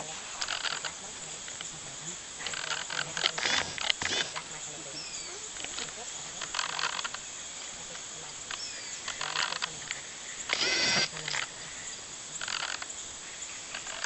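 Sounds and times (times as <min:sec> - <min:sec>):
animal calls: 0:00.0 - 0:14.0
high insect buzz: 0:00.0 - 0:14.0.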